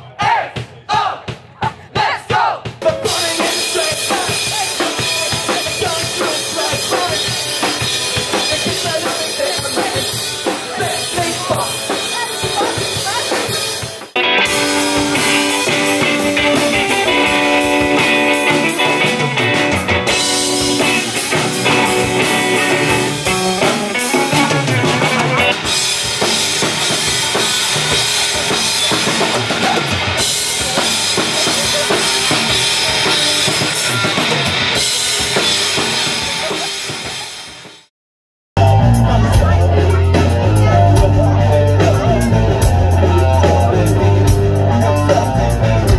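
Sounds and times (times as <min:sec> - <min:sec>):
alternative rock music: 0:00.0 - 0:37.9, 0:38.6 - 0:45.9
drum kit beat: 0:00.0 - 0:37.9, 0:38.6 - 0:45.9.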